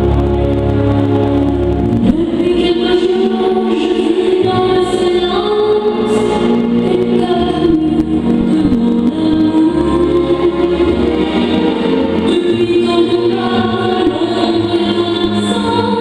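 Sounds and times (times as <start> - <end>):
choir singing long notes: 0.0 - 16.0
organ-like sustained backing: 0.0 - 16.0.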